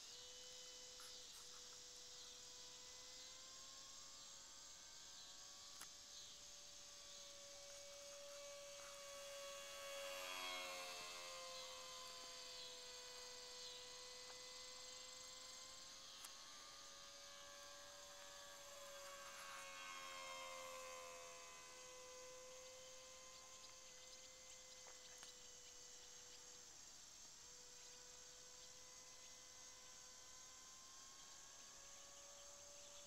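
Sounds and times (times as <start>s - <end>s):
model plane motor humming: 0.0s - 33.0s.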